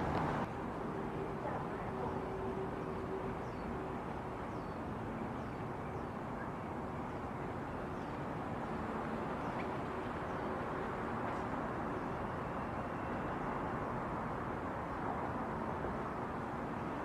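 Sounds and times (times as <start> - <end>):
rumbling background noise: 0.0 - 17.0.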